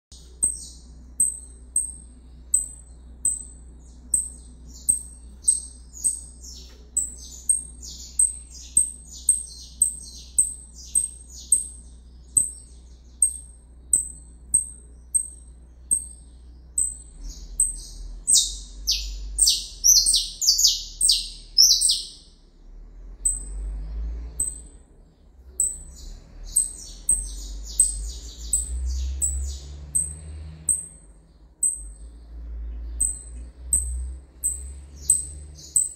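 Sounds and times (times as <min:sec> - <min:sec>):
canary chirping and singing: 0:00.1 - 0:22.3, 0:23.1 - 0:35.9.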